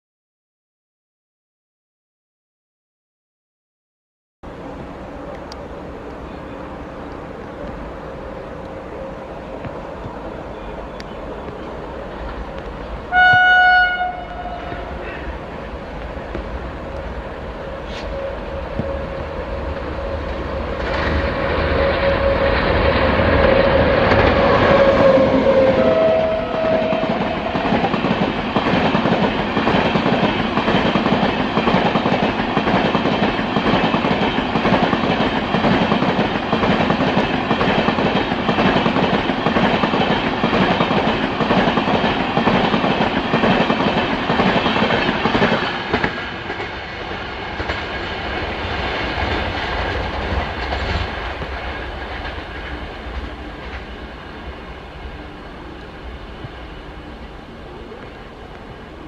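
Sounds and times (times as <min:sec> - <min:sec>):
train passing at speed: 0:04.4 - 0:59.0.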